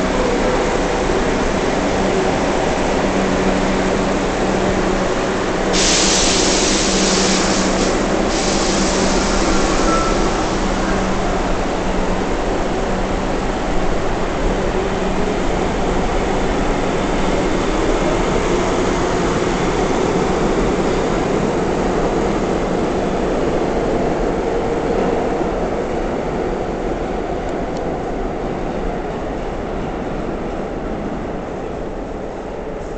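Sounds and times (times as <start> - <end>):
subway train pulling out: 0.0 - 32.9.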